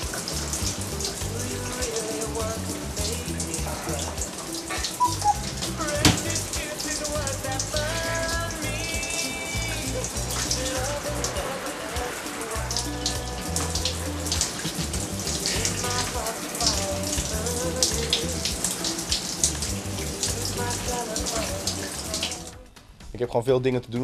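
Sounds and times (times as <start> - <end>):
music with heavy bass: 0.0 - 18.7, 19.4 - 22.5
shower spray splashing: 0.0 - 22.5.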